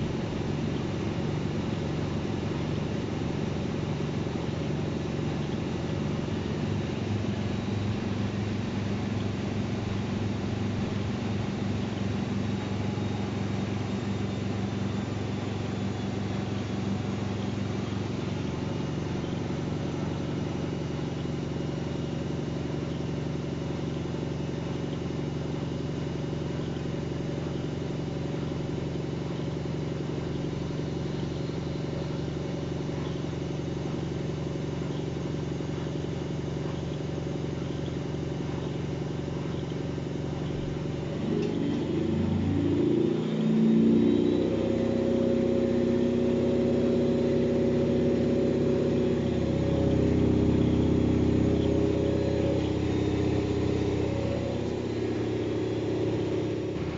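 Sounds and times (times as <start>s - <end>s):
washing machine motor humming: 0.0s - 56.9s.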